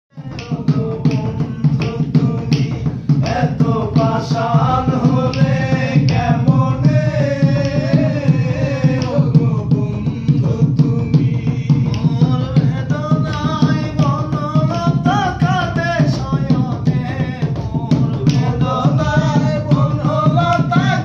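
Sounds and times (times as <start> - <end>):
hand drum beat: 0.1 - 21.0.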